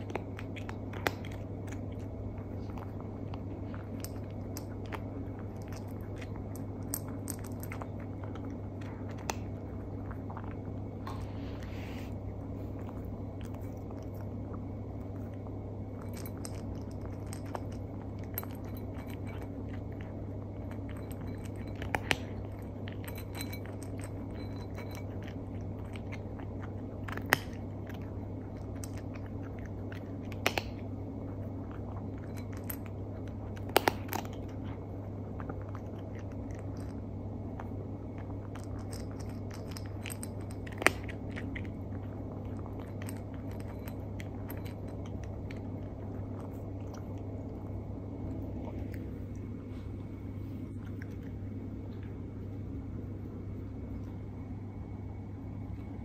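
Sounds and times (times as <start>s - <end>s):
cat crunching dry food: 0.0s - 50.0s, 50.6s - 52.6s.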